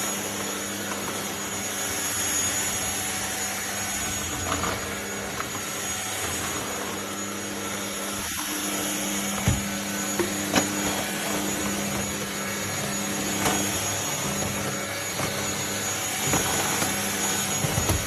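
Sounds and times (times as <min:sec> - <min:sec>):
stick vacuum cleaner running: 0:00.0 - 0:18.0.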